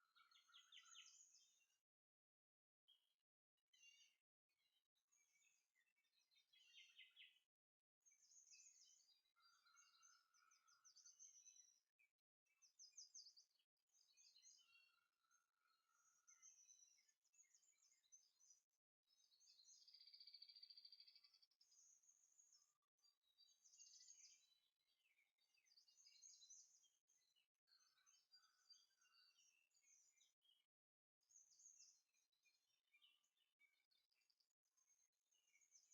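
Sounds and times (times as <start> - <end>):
faint birdsong chirps and trills: 0.0 - 35.9.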